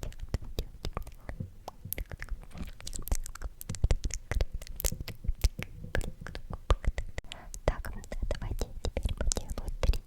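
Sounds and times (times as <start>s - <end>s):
lip and tongue clicks: 0.0s - 10.0s.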